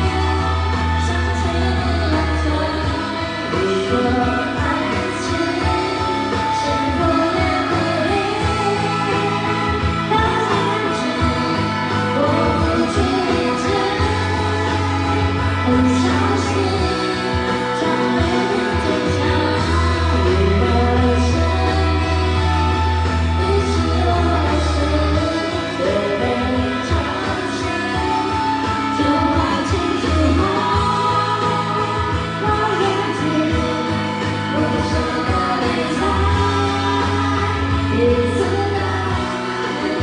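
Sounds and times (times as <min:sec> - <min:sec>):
long held bass notes: 0:00.0 - 0:40.0
pop ballad with singing: 0:00.0 - 0:40.0.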